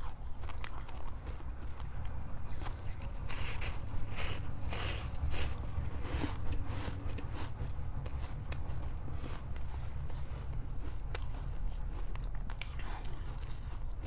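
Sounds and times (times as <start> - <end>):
frost crunching and scraping: 0.0 - 14.0
steady low rumble: 0.0 - 14.0.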